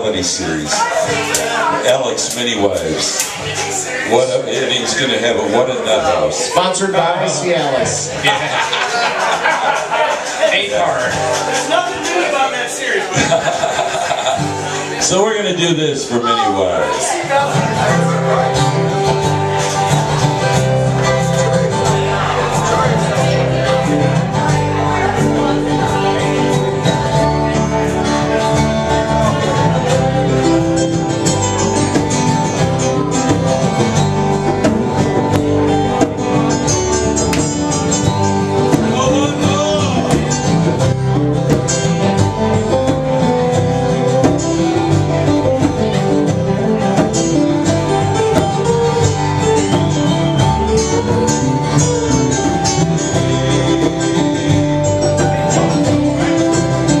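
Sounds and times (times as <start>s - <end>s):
band playing country music: 0.0s - 57.0s.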